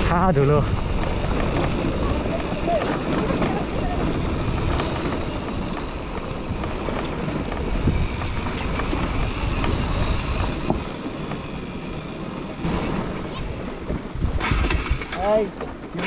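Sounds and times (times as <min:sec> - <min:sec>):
motorcycle engine rumble: 0:00.0 - 0:16.0
wind buffeting microphone: 0:00.0 - 0:16.0.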